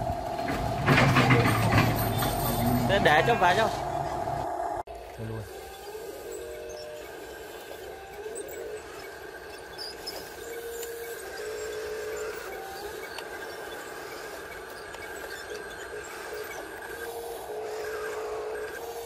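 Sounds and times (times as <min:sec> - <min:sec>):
high toy motor whine: 0:00.0 - 0:19.0
lower toy motor whine: 0:00.0 - 0:19.0.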